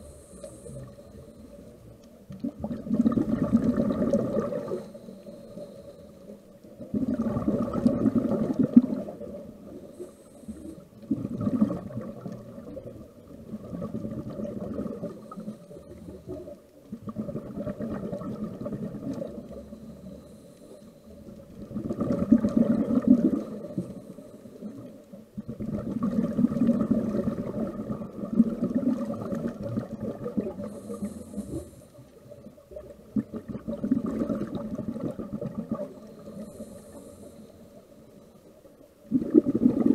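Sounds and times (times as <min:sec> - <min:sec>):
underwater exhaled air bubbling: 0:00.0 - 0:39.9.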